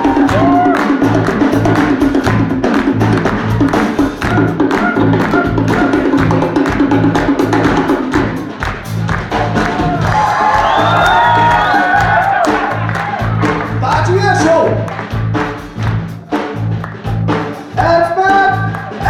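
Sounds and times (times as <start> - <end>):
busy drum beat: 0.0 - 19.0
shawm playing fast melody: 0.0 - 19.0.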